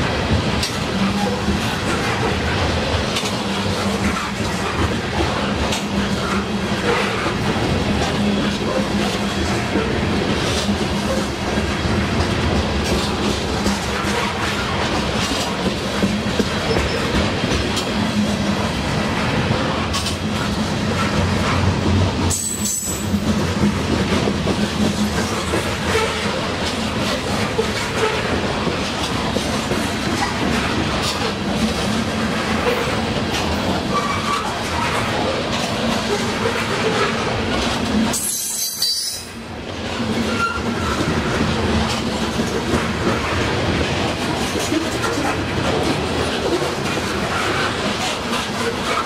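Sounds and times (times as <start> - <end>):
train wheels on rails: 0.0 - 49.0.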